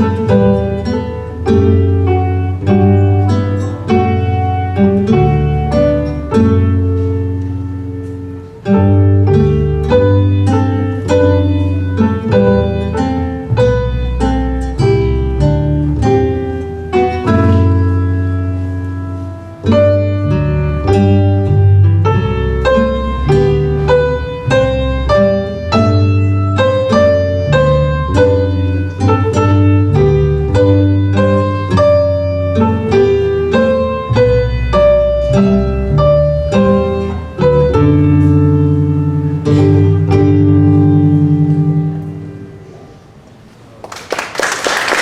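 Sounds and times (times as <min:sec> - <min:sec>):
plucked-string ensemble playing baroque music: 0:00.0 - 0:42.8.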